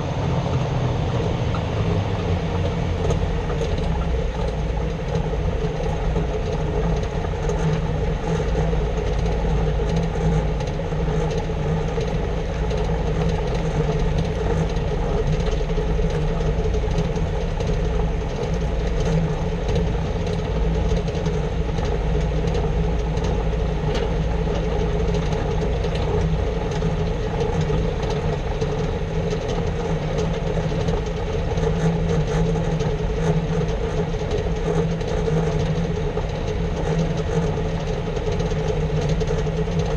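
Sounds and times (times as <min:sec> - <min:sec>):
vehicle drone and road noise: 0:00.0 - 0:39.9.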